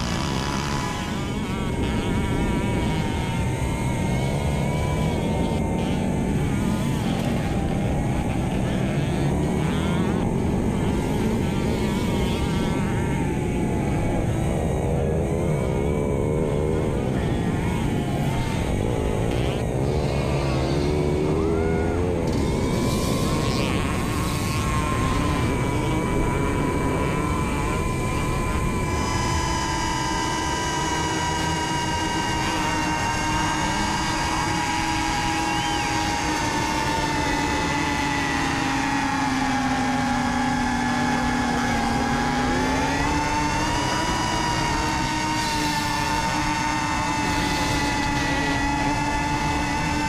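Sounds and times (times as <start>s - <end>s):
drone propellers whining: 0.0s - 50.0s
motorcycle engines: 0.0s - 50.0s.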